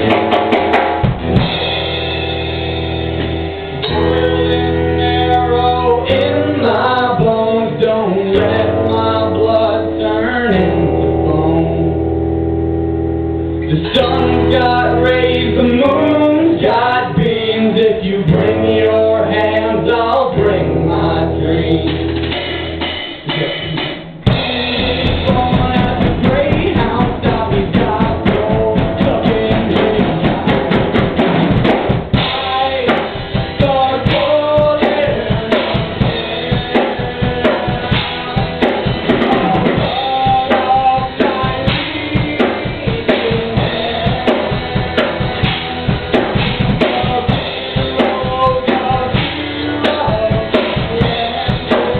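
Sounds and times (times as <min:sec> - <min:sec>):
drum kit beat: 0:00.0 - 0:11.3, 0:13.7 - 0:51.9
live band playing: 0:00.0 - 0:51.9.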